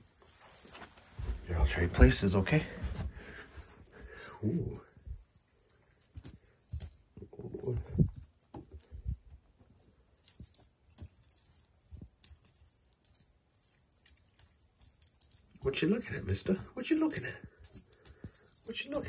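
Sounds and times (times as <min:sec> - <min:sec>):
toy mouse jingling: 0:00.0 - 0:01.5, 0:03.6 - 0:19.0.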